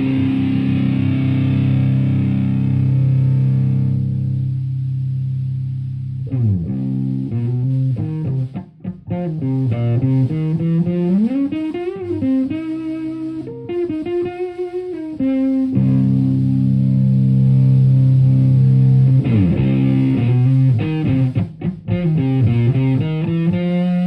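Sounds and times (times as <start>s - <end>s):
fuzzy electric guitar lead: 0.0s - 24.0s.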